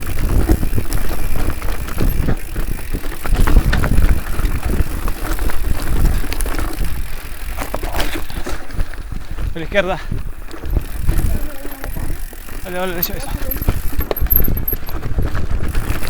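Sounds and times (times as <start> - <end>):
wind buffeting microphone: 0.0 - 7.6, 8.2 - 16.0
bike rattling and knocking: 0.0 - 16.0.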